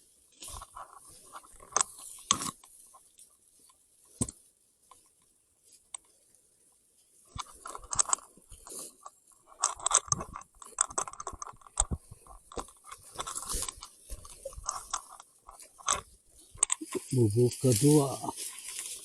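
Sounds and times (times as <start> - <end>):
crunching and crackling handling noise: 0.0 - 19.0.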